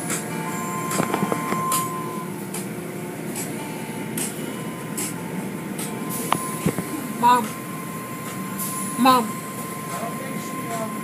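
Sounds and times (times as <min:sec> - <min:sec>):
car wash machinery rumble: 0:00.0 - 0:11.0.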